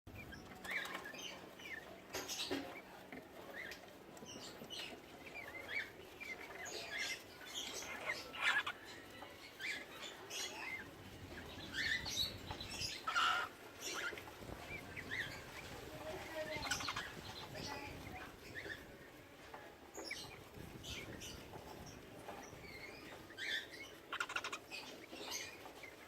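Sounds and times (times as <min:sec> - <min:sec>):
cockatiels chirping: 0:00.1 - 0:19.0, 0:19.9 - 0:26.0.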